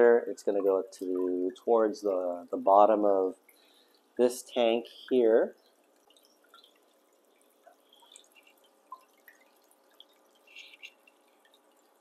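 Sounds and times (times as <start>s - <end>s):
faint hum: 0.0s - 12.0s
water dripping and splashing: 0.0s - 12.0s.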